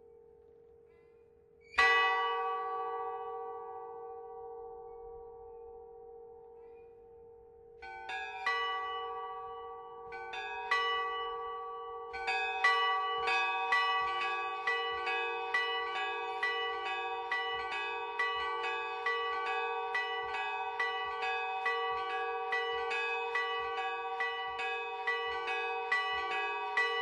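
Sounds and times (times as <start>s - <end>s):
church bells ringing: 1.8s - 7.0s, 7.8s - 27.0s.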